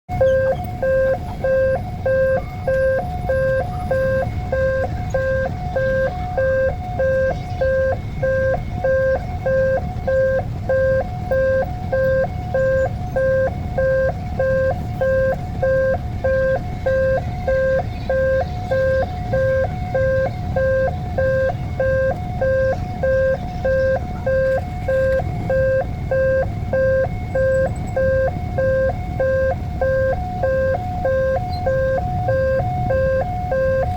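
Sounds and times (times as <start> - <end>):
level crossing alarm dinging: 0.1 - 33.9.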